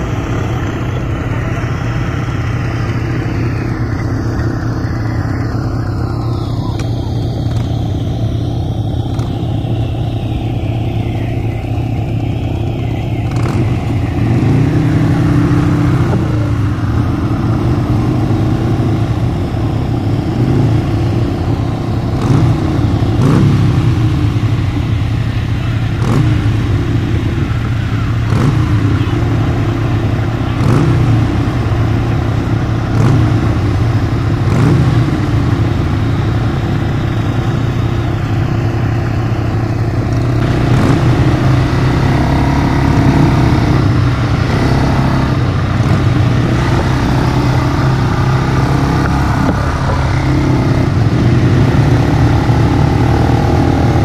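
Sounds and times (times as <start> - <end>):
engine revving: 0.0 - 54.0
quad bike engines idling: 0.0 - 54.0.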